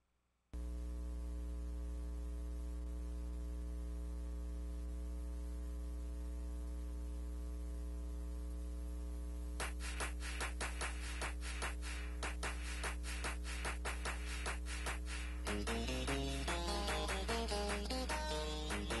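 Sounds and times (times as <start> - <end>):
constant hiss: 0.6 - 19.0
steady electrical hum: 0.6 - 19.0.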